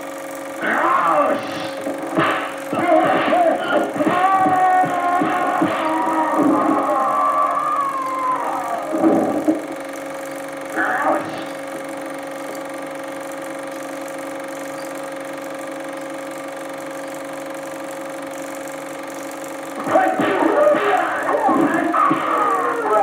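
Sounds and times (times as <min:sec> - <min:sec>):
film projector humming: 0:00.0 - 0:23.0.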